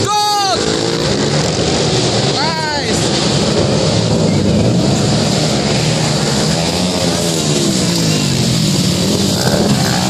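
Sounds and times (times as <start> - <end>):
motorcycle engine running: 0.3 - 10.0.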